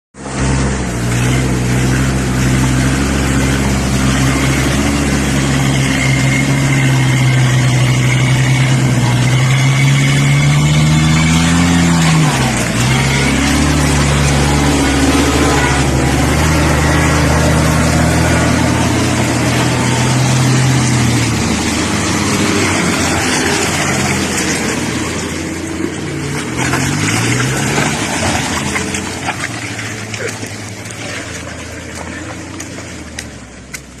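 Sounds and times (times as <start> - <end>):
truck engines revving: 0.2 - 34.0.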